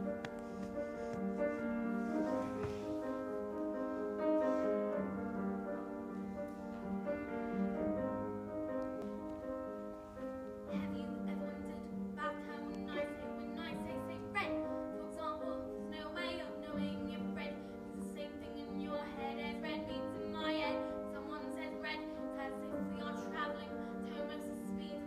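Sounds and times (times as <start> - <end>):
grand piano playing: 0.0 - 25.0.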